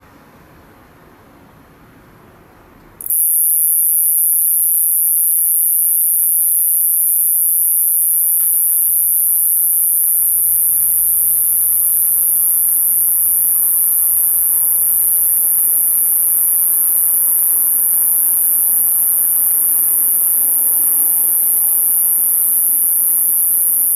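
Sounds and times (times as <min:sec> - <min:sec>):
katydid high-pitched buzzing: 0:03.0 - 0:23.9.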